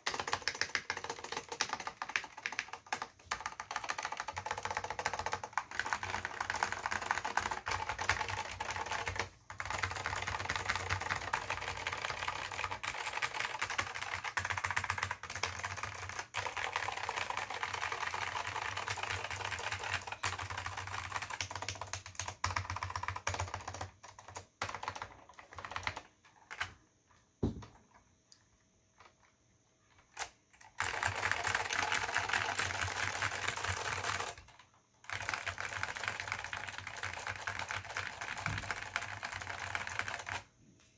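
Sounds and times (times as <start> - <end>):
typing on keyboard: 0.0 - 26.8, 29.0 - 40.6.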